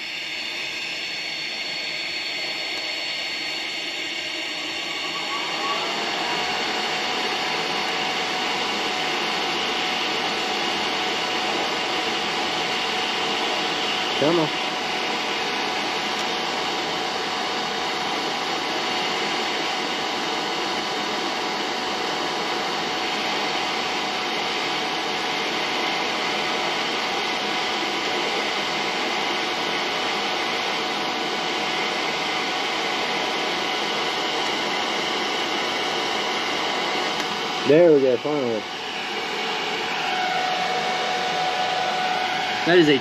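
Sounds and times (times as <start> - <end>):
faint steady whine: 0.0 - 43.0.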